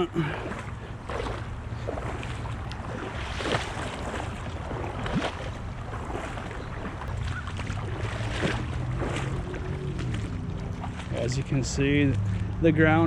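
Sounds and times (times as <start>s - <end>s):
creek water over rocks: 0.0s - 13.0s
splashes from wading: 0.0s - 13.0s
wind rumbling on microphone: 0.4s - 13.0s.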